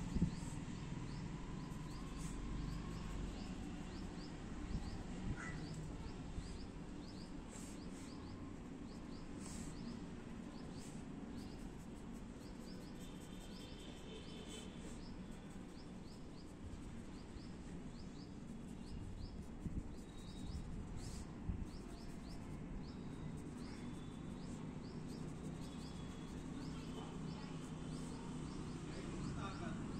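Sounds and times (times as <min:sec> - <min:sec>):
small bird chirping: 0:00.0 - 0:29.9.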